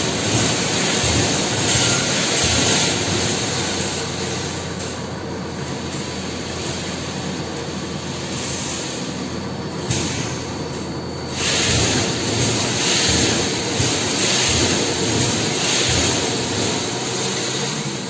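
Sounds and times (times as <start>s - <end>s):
factory machinery roar: 0.0s - 18.0s.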